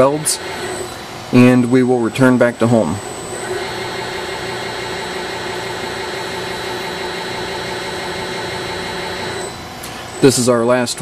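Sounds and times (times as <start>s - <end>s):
machine motor hum with high whine: 0.0s - 11.0s.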